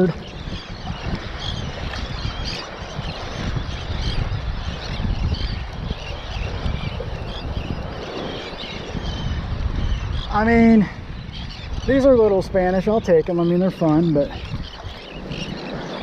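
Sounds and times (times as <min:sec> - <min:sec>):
birds chirping: 0:00.0 - 0:16.0
gusting wind rumble: 0:00.0 - 0:16.0.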